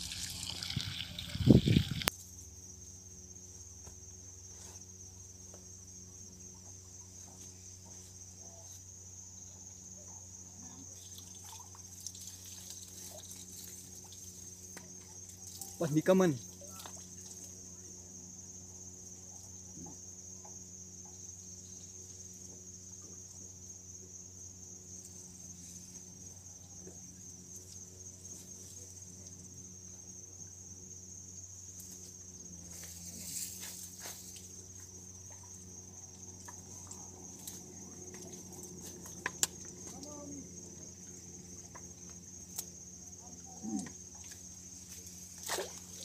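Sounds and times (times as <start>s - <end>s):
rustle: 0.0s - 9.8s, 10.5s - 17.9s, 24.2s - 46.0s
crickets trilling: 0.0s - 46.0s.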